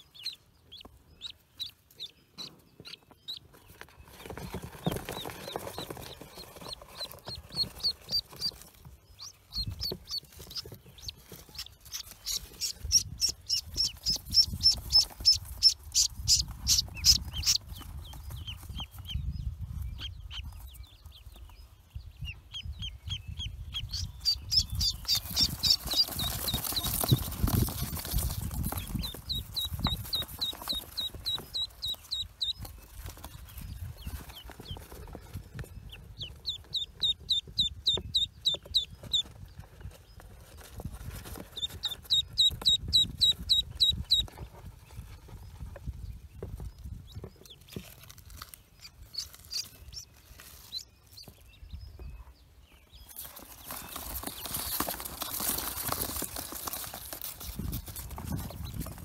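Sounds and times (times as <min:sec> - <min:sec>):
ducklings peeping: 0:00.0 - 0:59.0
rustling noise: 0:03.4 - 0:22.0, 0:23.7 - 0:52.0, 0:53.0 - 0:59.0.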